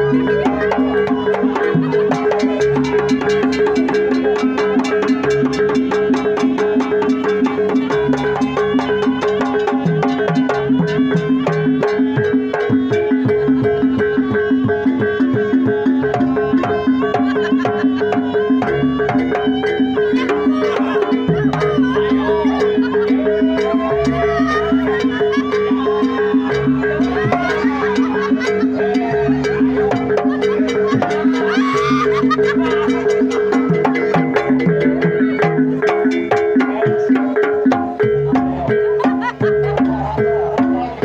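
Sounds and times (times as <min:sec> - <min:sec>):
fast percussion strokes: 0:00.0 - 0:41.0.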